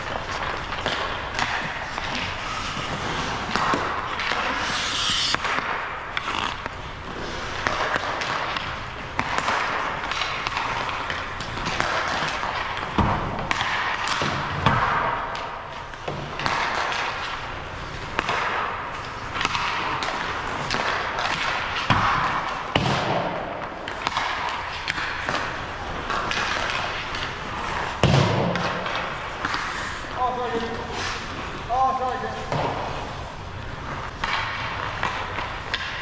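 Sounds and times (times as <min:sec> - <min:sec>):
pucks thudding against boards: 0:00.0 - 0:36.0
skate blades scraping ice: 0:00.0 - 0:36.0
sticks clicking on pucks: 0:00.0 - 0:36.0.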